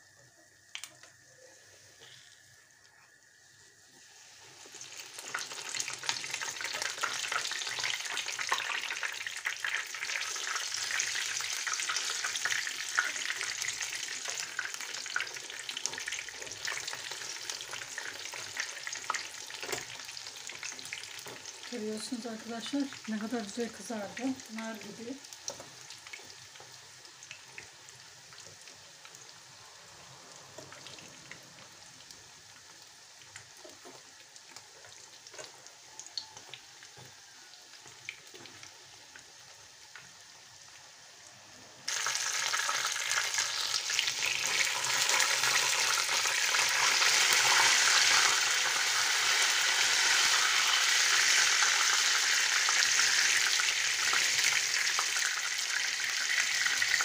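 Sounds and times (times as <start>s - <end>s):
dough frying in oil: 0.0s - 57.0s.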